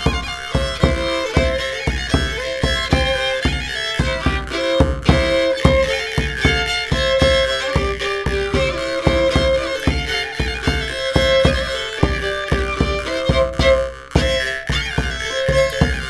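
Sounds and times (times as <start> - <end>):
bowed fiddle melody: 0.0 - 16.0
steady drum beat: 0.0 - 16.0.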